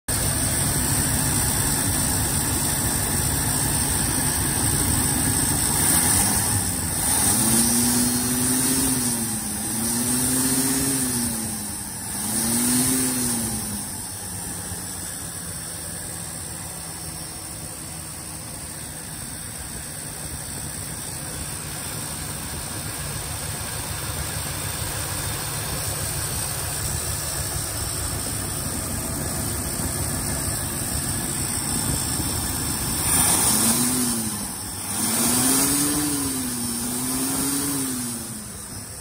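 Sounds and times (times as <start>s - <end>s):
truck engine idling and revving: 0.0s - 39.0s.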